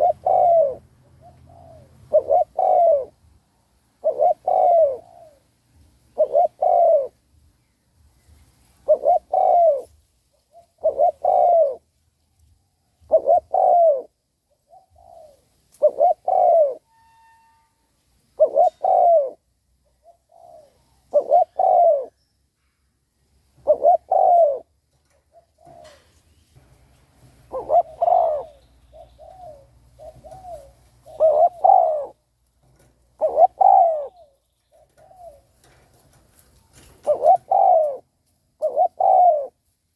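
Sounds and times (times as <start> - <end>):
dove cooing: 0.0 - 3.3, 4.0 - 7.4, 8.8 - 11.9, 13.0 - 17.0, 18.4 - 22.2, 23.6 - 26.4, 27.4 - 39.7.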